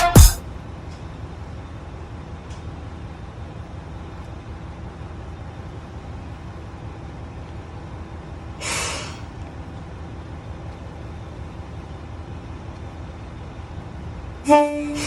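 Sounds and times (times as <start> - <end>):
diesel railcar rumbling: 0.5 - 15.0.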